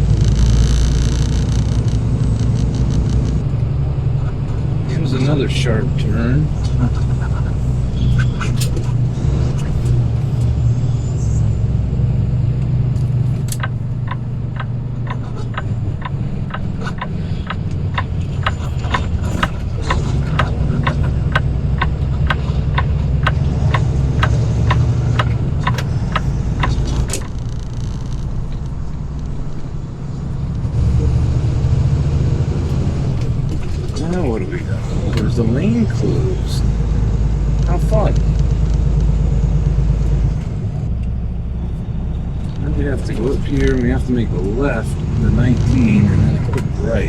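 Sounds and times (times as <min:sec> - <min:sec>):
turn signal clicking: 0:00.0 - 0:11.5, 0:12.6 - 0:41.2
truck engine running: 0:00.0 - 0:47.0.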